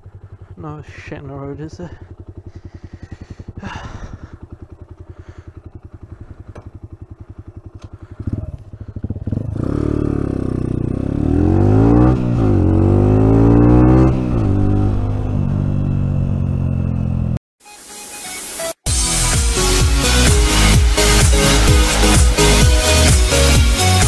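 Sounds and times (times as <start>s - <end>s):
motorcycle engine: 0.0s - 17.4s, 18.9s - 24.0s.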